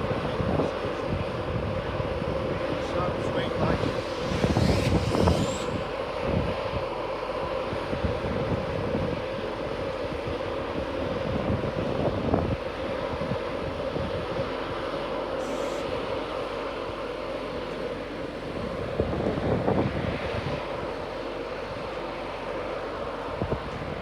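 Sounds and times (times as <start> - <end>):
train engine droning: 0.0 - 23.6.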